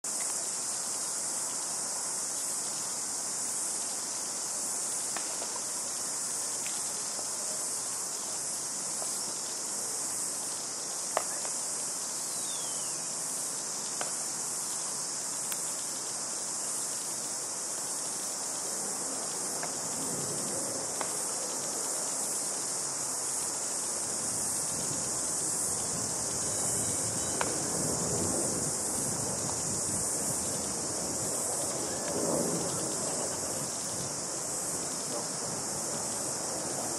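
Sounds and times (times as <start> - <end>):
insects shrilling: 0.1 - 36.9.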